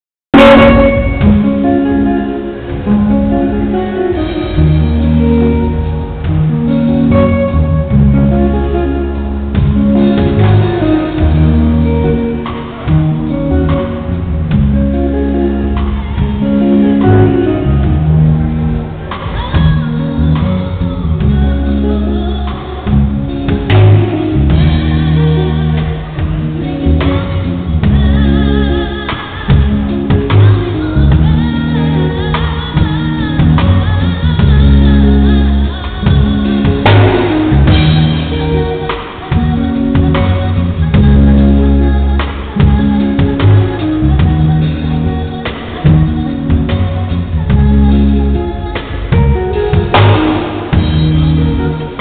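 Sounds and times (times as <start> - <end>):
drum kit: 0.3 - 52.0
electric bass line: 0.3 - 52.0
electric guitar: 0.3 - 52.0
woman singing into microphone: 0.4 - 52.0.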